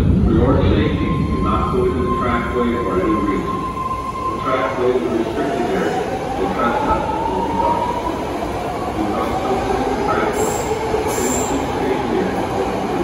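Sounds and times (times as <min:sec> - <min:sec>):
train rumbling over rails: 0:00.0 - 0:13.0.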